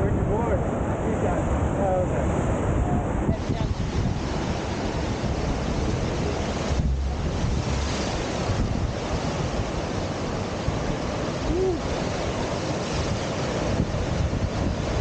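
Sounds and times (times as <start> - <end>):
rushing whitewater: 0.0 - 15.0
wind buffeting microphone: 0.0 - 15.0.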